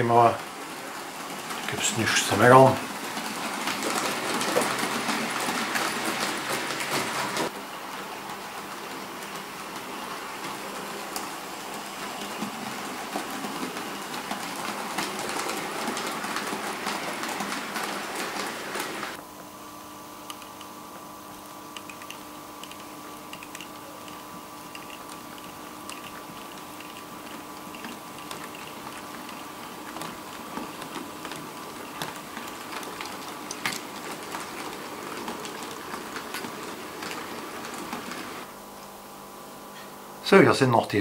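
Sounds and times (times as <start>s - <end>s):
model train hum: 0.0s - 19.2s, 21.8s - 38.5s
wheels clicking over rail joints: 0.0s - 19.2s, 21.8s - 38.5s.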